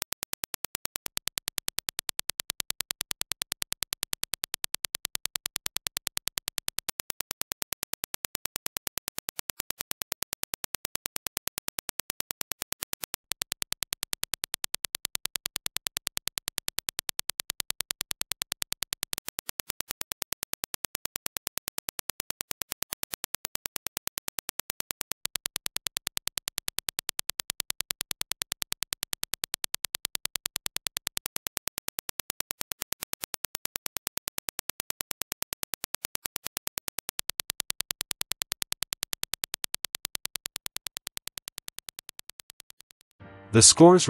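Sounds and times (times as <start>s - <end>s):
rapid train of sharp clicks: 0.0s - 43.1s.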